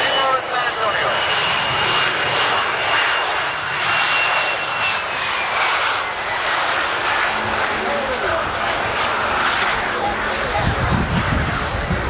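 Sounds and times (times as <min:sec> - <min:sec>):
high engine whine: 0:00.0 - 0:12.0
jet engines rushing: 0:00.0 - 0:12.0.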